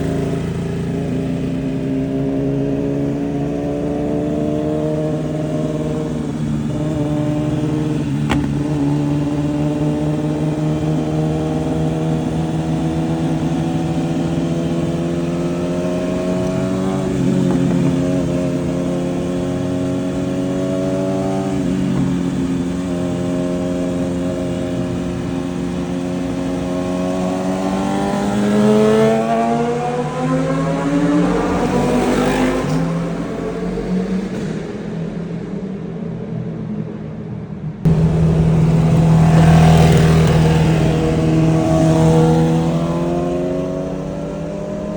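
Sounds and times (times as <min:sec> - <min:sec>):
motorcycle engine revving: 0:00.0 - 0:34.8, 0:37.9 - 0:44.9.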